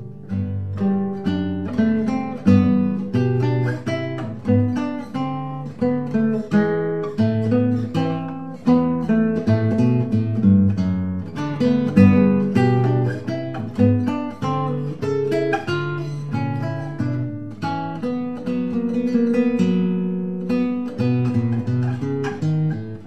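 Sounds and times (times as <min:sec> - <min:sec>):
acoustic guitar plucking: 0:00.0 - 0:23.0.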